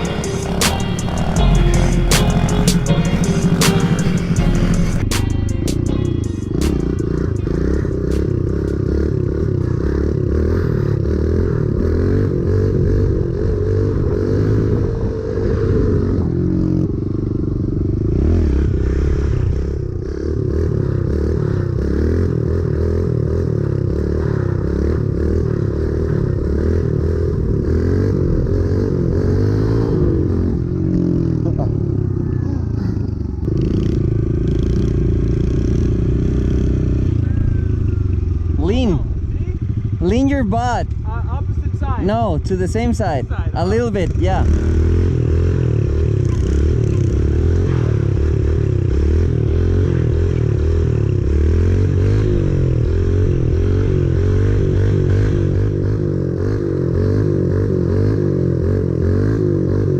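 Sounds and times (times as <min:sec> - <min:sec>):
mini bike engine running hard: 0:00.0 - 0:05.0, 0:06.8 - 0:40.2, 0:44.4 - 0:59.9.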